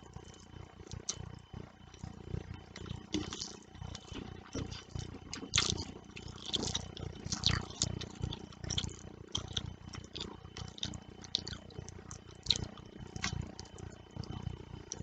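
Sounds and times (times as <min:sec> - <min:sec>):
chewing and wet mouth sounds: 0:00.1 - 0:15.0.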